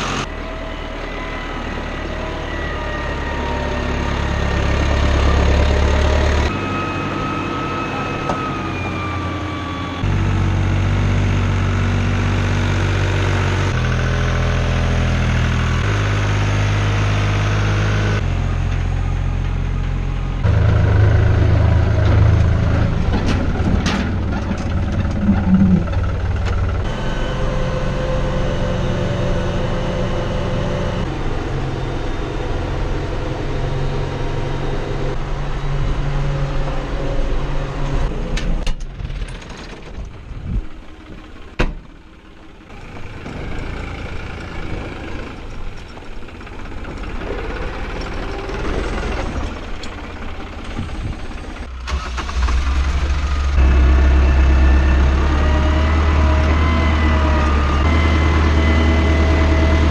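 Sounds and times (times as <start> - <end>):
deeper louder engine: 0.0 - 59.9
tractor engine running: 0.0 - 59.9.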